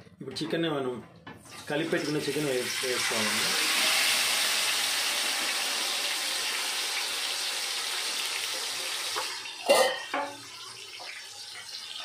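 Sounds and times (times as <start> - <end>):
chicken sizzling in hot oil: 1.9 - 12.0.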